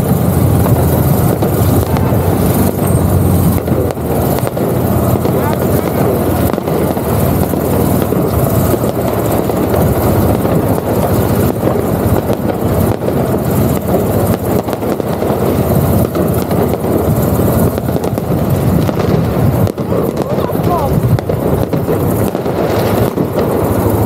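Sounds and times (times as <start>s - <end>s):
motorcycle engine rumble: 0.0s - 24.0s
wind on microphone: 0.0s - 24.0s.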